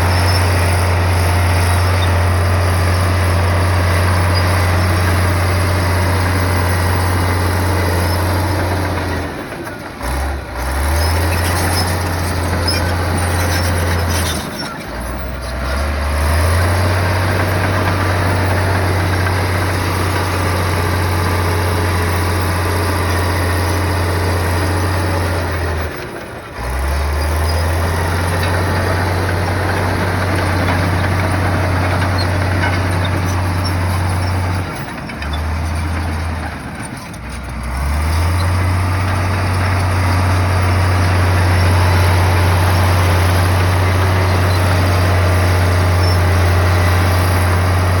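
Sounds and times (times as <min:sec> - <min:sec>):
bulldozer diesel engine droning: 0:00.0 - 0:48.0.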